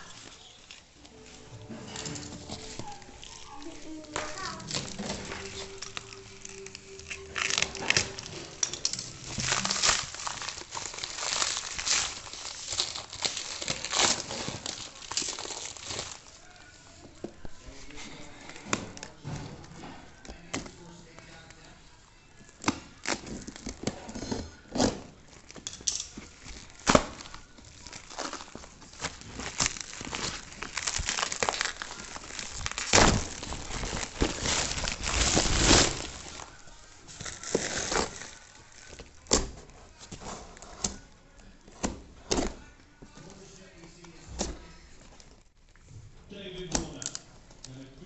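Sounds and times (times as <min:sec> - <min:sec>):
packaging crinkling: 0:00.0 - 0:21.8, 0:22.4 - 0:41.6.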